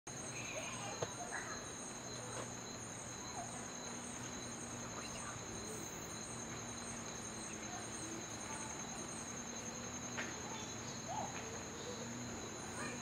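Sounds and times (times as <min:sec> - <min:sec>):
insect chorus drone: 0:00.1 - 0:13.0
pulsing insect call: 0:00.1 - 0:13.0.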